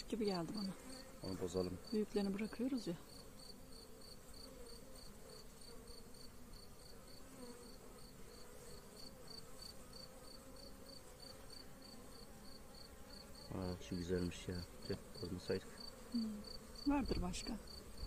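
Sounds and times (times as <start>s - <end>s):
bees humming: 0.0s - 18.0s.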